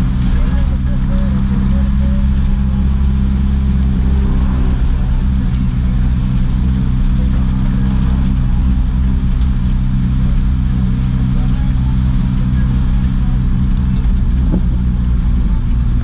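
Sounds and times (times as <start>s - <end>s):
truck diesel engine cruising: 0.0s - 16.0s.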